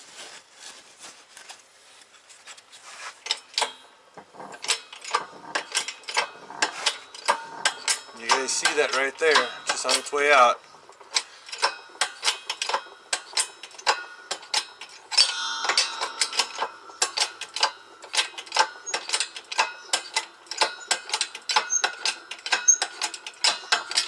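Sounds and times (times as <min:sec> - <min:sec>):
sharp metallic clicks: 0:04.5 - 0:24.0.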